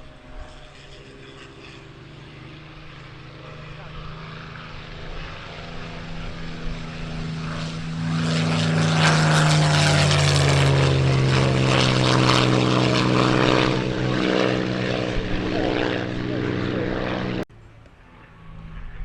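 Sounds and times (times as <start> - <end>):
piston fighter plane flying past: 0.0 - 19.0.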